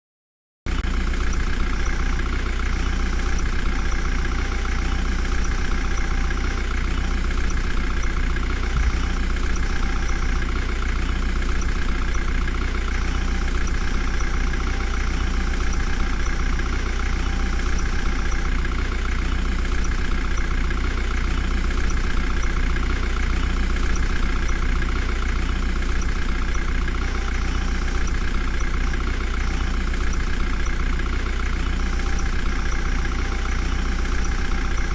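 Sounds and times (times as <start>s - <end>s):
diesel engine idling: 0.7s - 34.9s.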